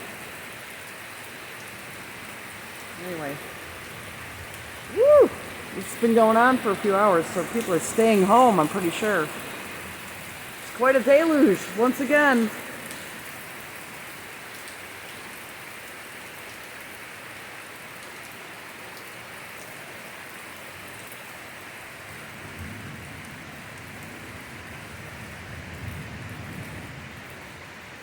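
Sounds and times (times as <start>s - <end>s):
torrential rain pouring: 0.0s - 28.0s.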